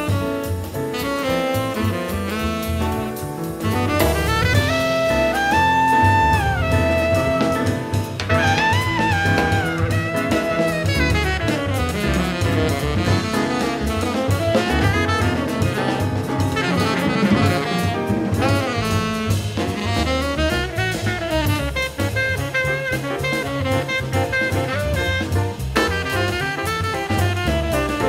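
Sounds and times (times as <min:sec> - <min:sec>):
jazz quartet playing: 0:00.0 - 0:28.0
tenor saxophone: 0:00.0 - 0:28.0.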